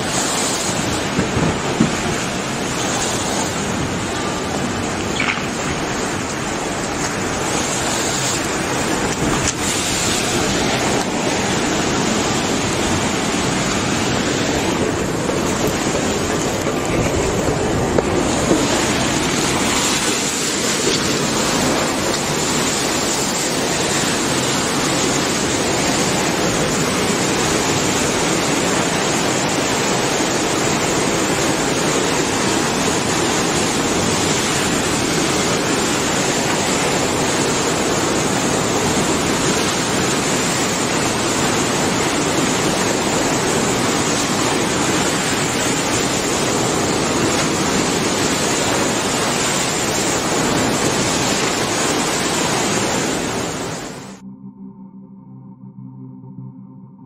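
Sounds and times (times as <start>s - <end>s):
water surging and churning: 0.0s - 54.2s.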